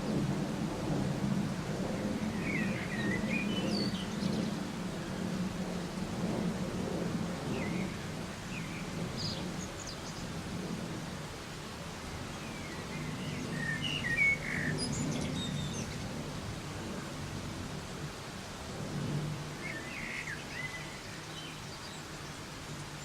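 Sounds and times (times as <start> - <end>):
soft rain: 0.0 - 23.0.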